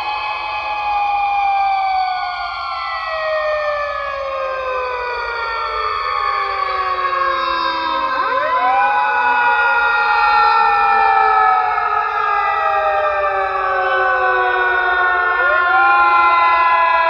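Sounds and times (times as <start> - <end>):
emergency siren wailing: 0.0 - 17.0.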